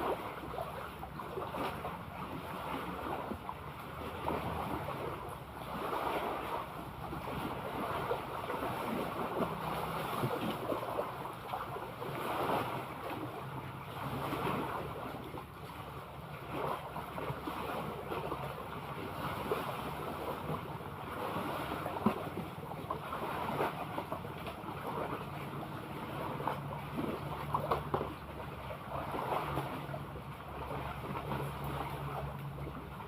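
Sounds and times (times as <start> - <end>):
sea water splashing: 0.0 - 33.0.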